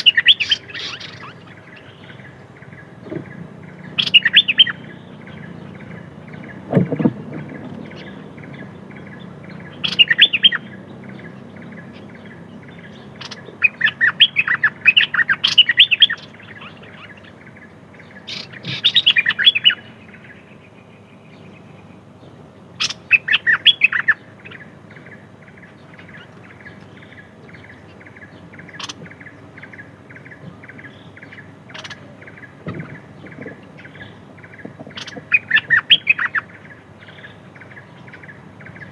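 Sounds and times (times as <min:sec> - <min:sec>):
songbird singing chirpy bursts: 0:00.0 - 0:38.9.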